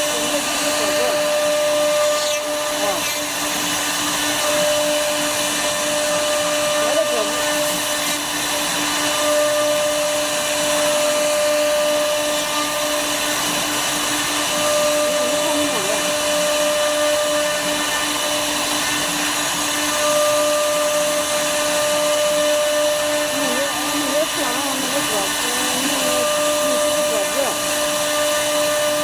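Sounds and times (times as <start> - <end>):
router spindle cutting wood: 0.0 - 29.0.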